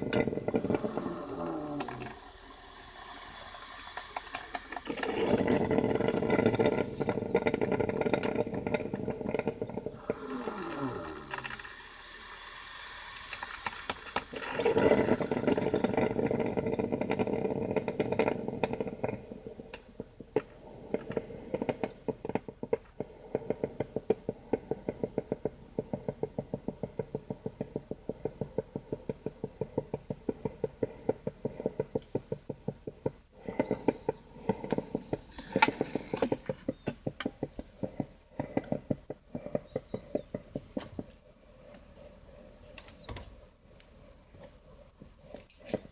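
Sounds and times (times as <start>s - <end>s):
coffee maker gurgling and hissing: 0.0s - 45.9s.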